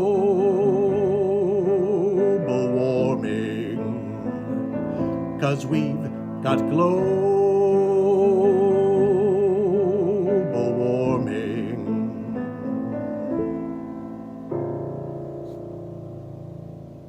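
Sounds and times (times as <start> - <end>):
person singing with vibrato: 0.0 - 13.8
piano chords: 0.0 - 17.0.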